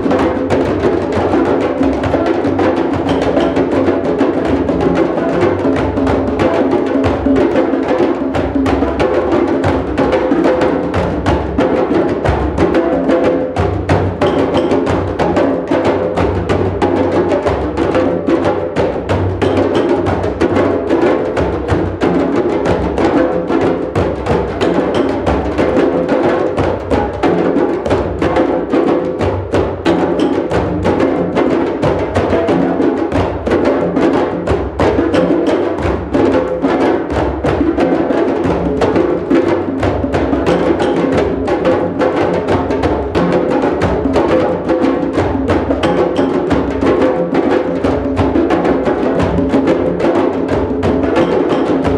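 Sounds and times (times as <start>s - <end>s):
drum circle playing: 0.0s - 51.9s.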